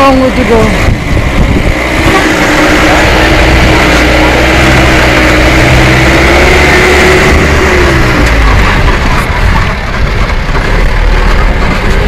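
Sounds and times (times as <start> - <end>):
rough road noise: 0.0 - 12.0
vehicle engine: 0.0 - 12.0.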